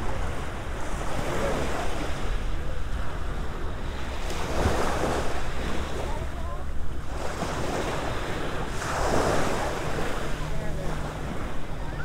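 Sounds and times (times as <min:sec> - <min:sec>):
small waves lapping on sand: 0:00.0 - 0:12.0.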